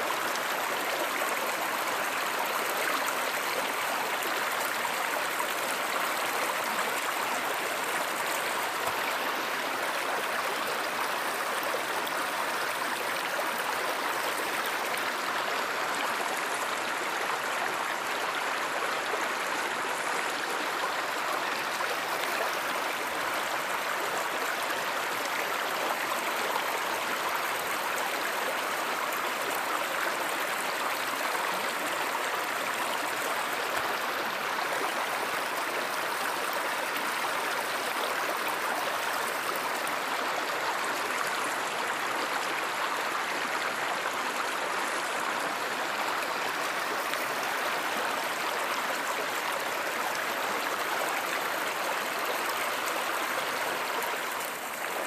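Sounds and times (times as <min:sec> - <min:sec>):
stream water rushing and gurgling: 0:00.0 - 0:55.0.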